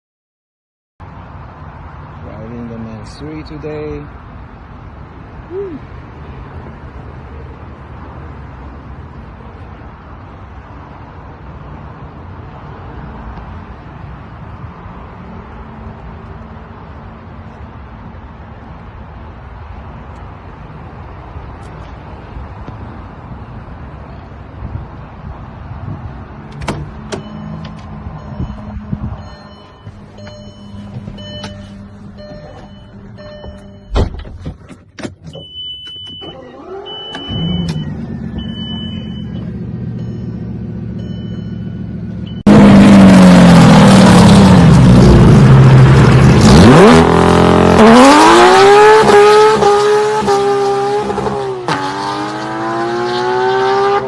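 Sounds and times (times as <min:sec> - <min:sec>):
car engine: 0:01.0 - 0:54.0
road noise: 0:01.0 - 0:54.0.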